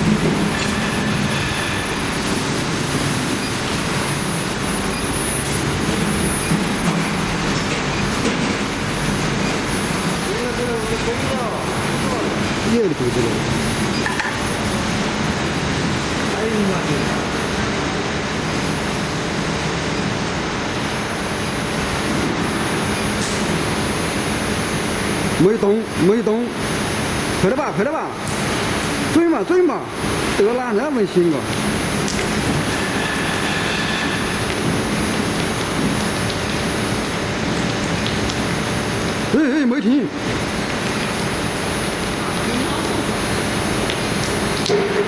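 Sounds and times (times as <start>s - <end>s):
furnace mechanical noise: 0.0s - 45.0s
high constant whine: 0.0s - 45.0s.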